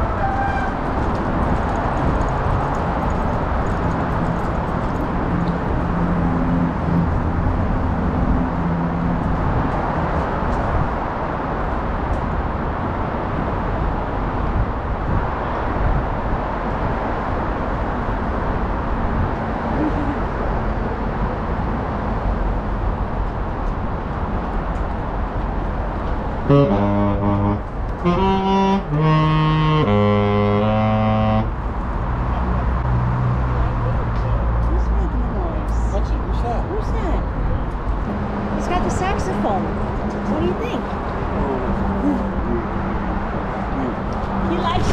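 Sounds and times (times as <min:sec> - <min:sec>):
traffic and city noise: 0:00.0 - 0:44.9.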